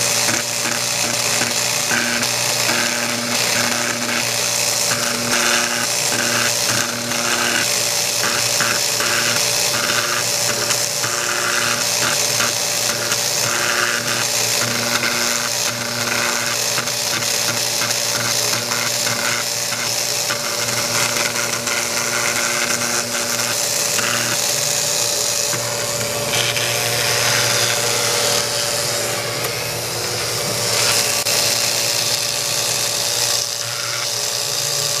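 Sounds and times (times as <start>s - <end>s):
engraving bit scraping metal: 0.0s - 35.0s
engraving machine motor hum: 0.0s - 35.0s.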